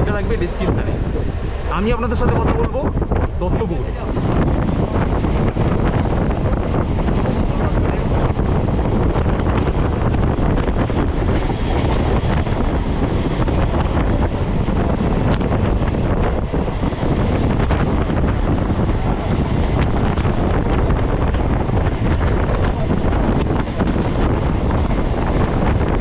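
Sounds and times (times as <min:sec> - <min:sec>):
train rumbling on track: 0:00.0 - 0:26.0
wind buffeting microphone: 0:00.0 - 0:26.0.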